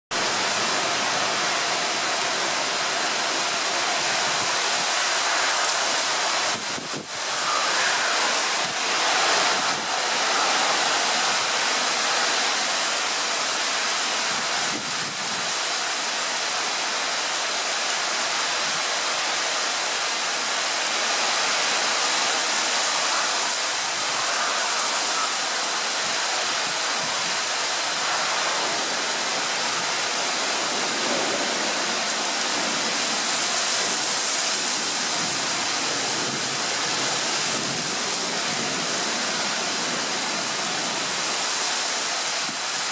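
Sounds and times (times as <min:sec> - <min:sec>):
heavy rain pouring: 0:00.1 - 0:42.9.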